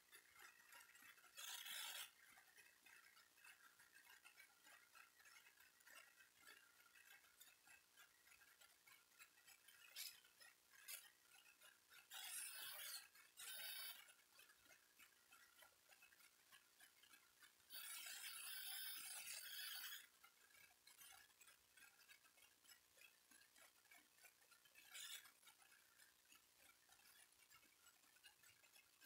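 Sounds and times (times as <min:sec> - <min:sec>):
faint rapid ticking: 0:00.0 - 0:29.0.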